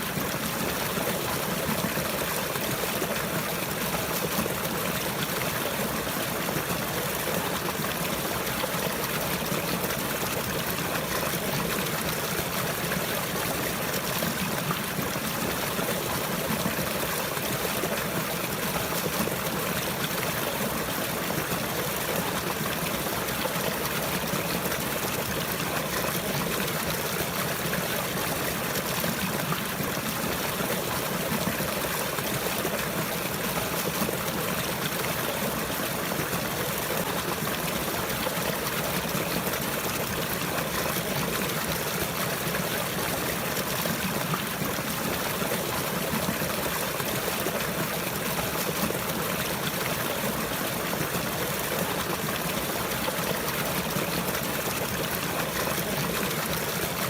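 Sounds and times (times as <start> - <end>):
water trickling and flowing: 0.0 - 57.0.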